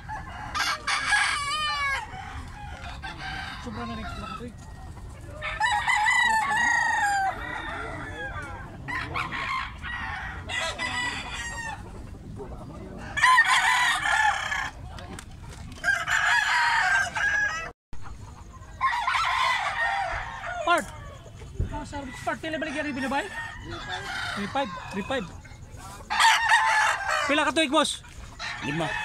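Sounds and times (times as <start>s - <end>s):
roosters crowing: 0.0s - 29.0s.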